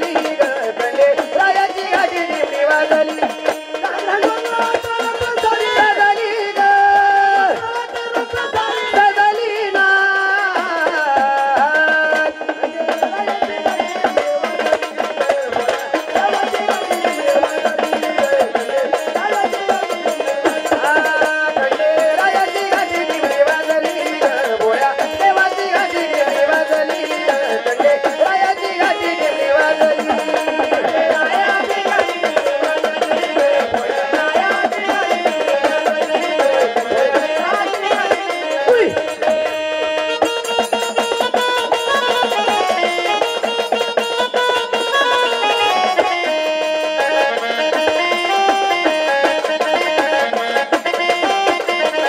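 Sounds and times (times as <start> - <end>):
folk melody: 0.0 - 52.0
hand drums: 0.0 - 52.0.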